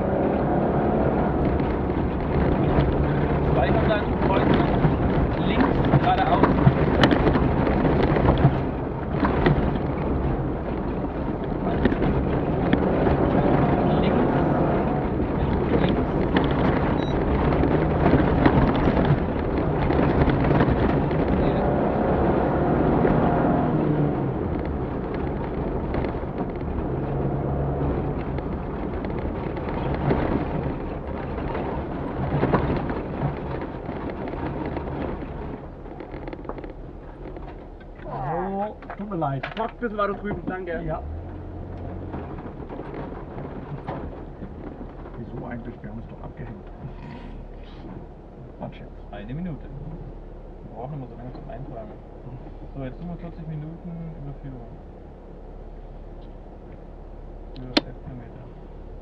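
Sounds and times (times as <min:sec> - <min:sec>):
vehicle knocks and rattles: 0:00.0 - 0:59.0.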